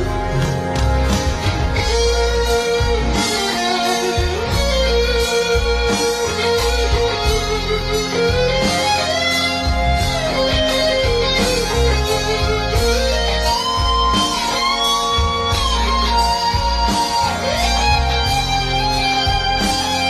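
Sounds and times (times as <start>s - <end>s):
bass: 0.0s - 20.0s
lead guitar sliding notes: 0.0s - 20.0s
steady drum beat: 0.0s - 20.0s.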